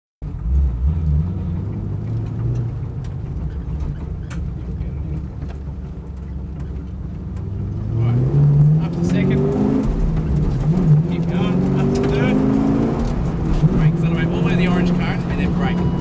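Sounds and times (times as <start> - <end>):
race car engine running: 0.2 - 16.0.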